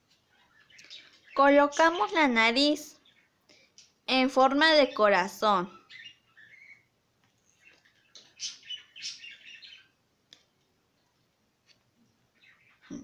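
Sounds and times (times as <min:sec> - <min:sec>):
small bird chirping: 0:00.0 - 0:10.0, 0:12.2 - 0:13.0.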